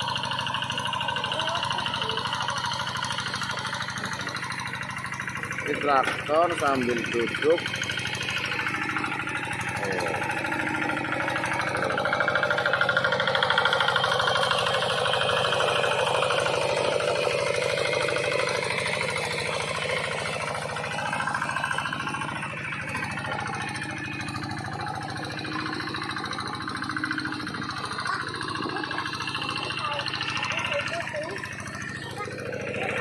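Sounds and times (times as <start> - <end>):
hand tractor engine running: 0.0 - 33.0.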